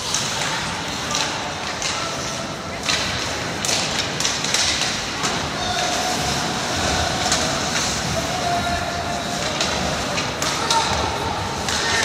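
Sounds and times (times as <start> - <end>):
hockey sticks and puck knocking: 0.0 - 12.0
skates scraping ice: 0.0 - 12.0.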